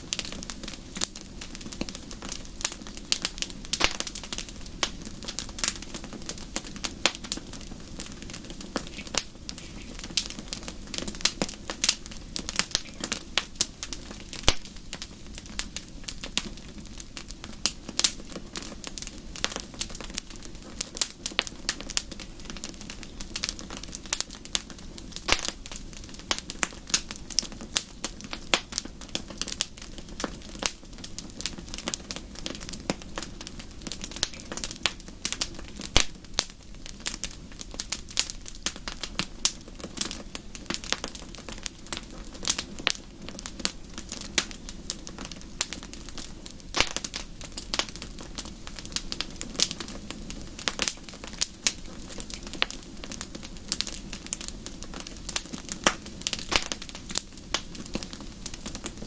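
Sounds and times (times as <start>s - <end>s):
fire pops and snaps: 0.0s - 59.0s
low rumble of burning: 0.0s - 59.0s.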